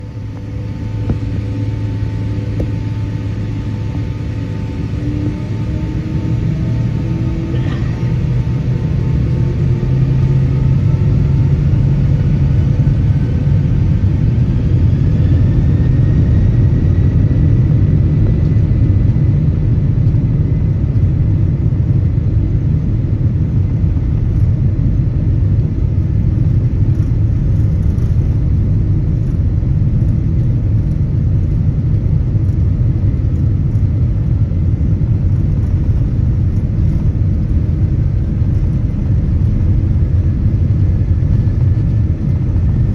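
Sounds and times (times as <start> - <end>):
jet engine whine: 0.0 - 42.9
low cabin rumble: 0.0 - 42.9.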